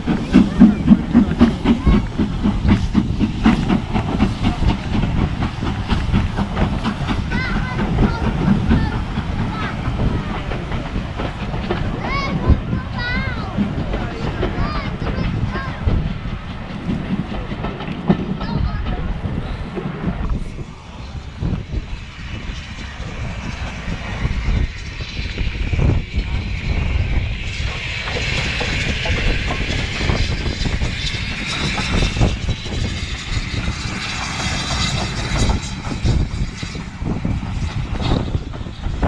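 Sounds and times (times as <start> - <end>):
steam locomotive passing: 0.0 - 39.0
train coaches rumbling on track: 0.0 - 39.0
wind buffeting microphone: 0.0 - 39.0.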